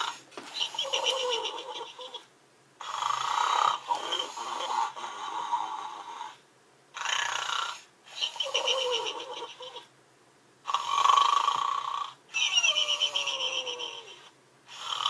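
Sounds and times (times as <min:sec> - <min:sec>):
toy snoring sound: 0:00.0 - 0:02.2, 0:02.8 - 0:06.4, 0:07.0 - 0:09.9, 0:10.6 - 0:15.0.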